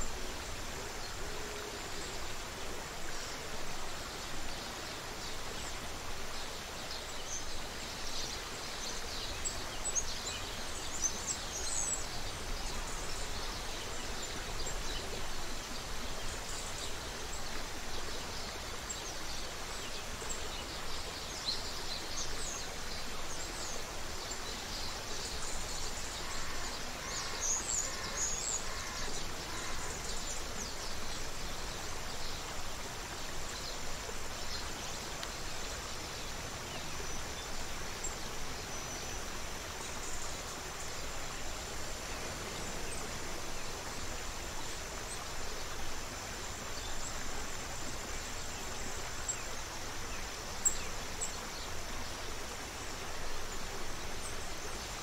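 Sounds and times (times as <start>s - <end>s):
creek water running: 0.0s - 55.0s.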